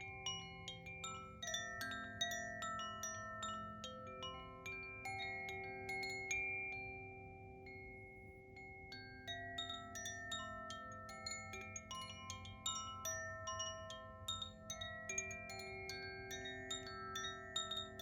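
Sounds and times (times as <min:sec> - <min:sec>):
wind chime ringing: 0:00.0 - 0:18.0.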